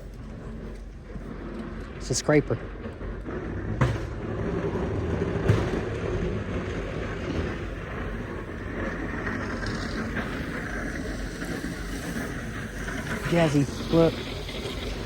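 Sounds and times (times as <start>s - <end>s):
plow blade scraping road: 0.0s - 15.0s
truck engine rumble: 0.0s - 15.0s.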